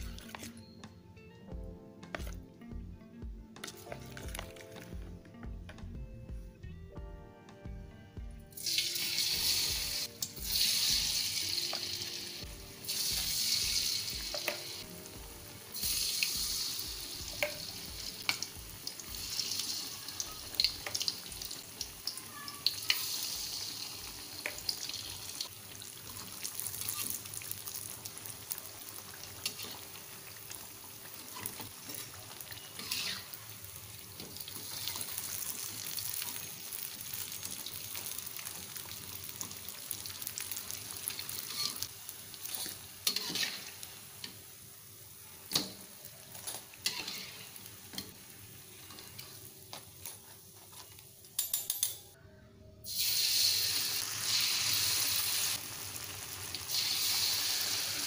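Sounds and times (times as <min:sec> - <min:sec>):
food frying in hot oil: 0:08.6 - 0:51.2, 0:52.9 - 0:58.0.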